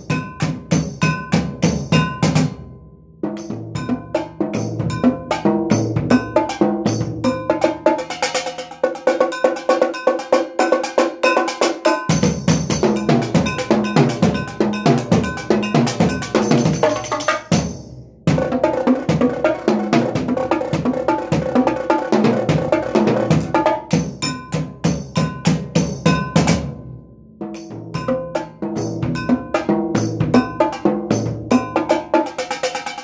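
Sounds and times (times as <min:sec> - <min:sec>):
drums played with drumsticks: 0:00.0 - 0:02.6, 0:03.2 - 0:33.0.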